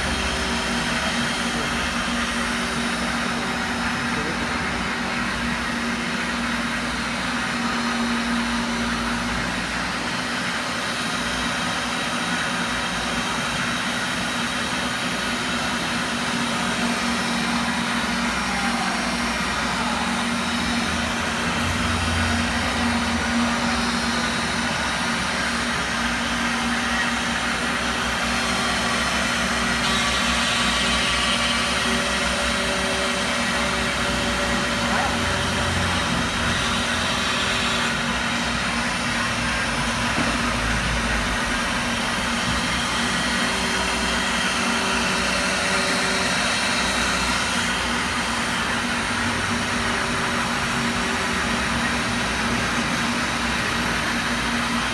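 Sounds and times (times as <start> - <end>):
machine motor hum and whirring: 0.0 - 54.9.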